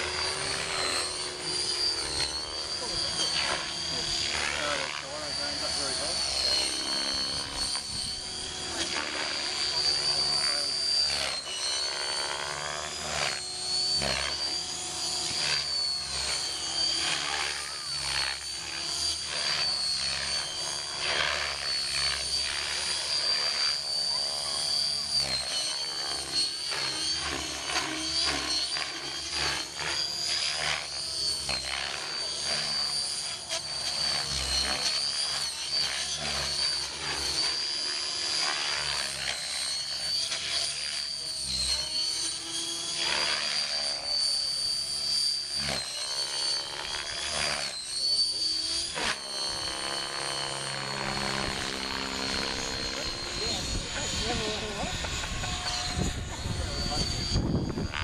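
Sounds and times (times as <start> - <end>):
model helicopter rotor whine: 0.0 - 58.0.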